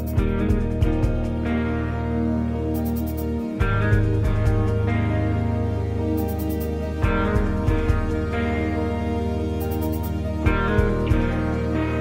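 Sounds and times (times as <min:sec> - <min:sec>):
instrumental film score music: 0:00.0 - 0:12.0
low beats: 0:00.0 - 0:12.0.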